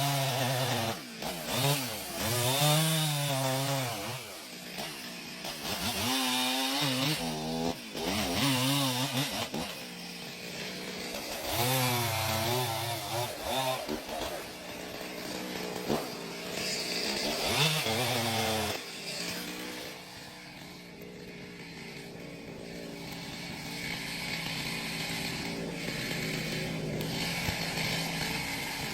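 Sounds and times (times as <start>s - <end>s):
chainsaw cutting wood: 0.0s - 28.9s.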